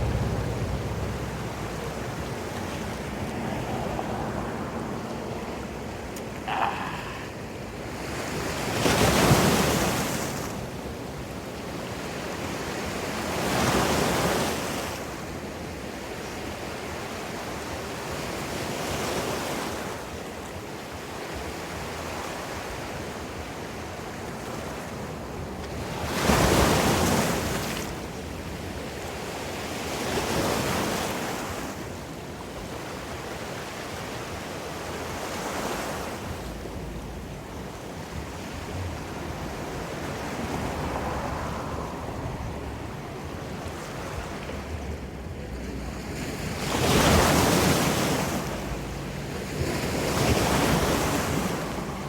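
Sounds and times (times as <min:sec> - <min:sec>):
ocean waves breaking on shore: 0:00.0 - 0:52.0
steady wash of surf: 0:00.0 - 0:52.0.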